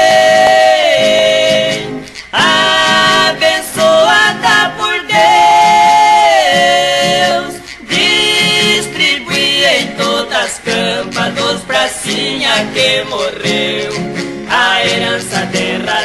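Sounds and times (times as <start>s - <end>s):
two men singing in harmony: 0.0s - 16.0s.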